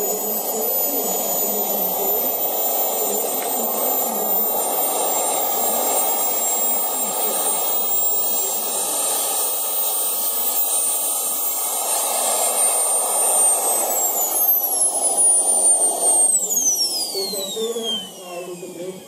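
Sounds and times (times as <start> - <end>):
model jet turbine whine: 0.0 - 19.0.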